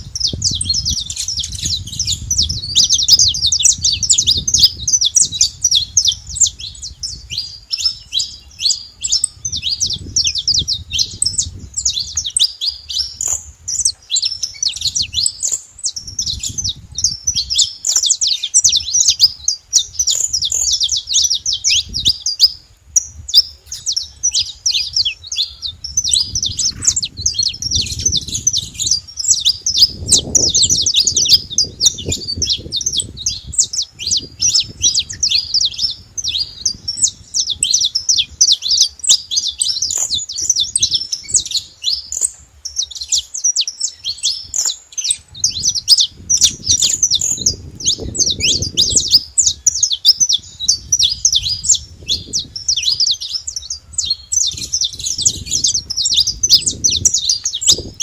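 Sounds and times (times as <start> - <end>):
finch singing high chirps: 0.0 - 58.0.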